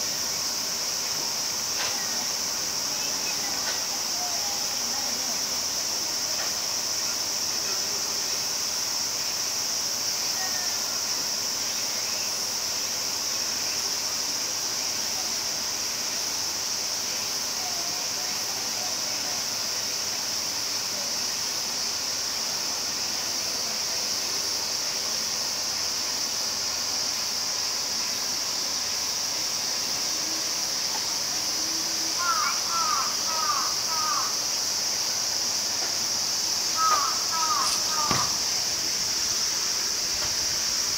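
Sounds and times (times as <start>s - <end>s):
insects droning: 0.0s - 40.9s
faint distant voices: 0.2s - 40.9s.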